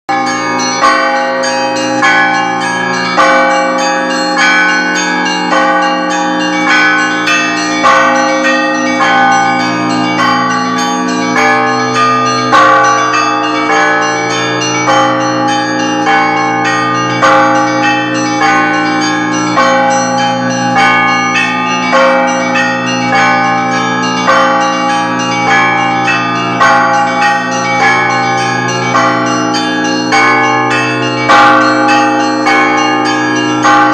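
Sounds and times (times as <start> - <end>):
deep bells ringing: 0.1 - 33.9
high church bells struck: 0.1 - 33.9.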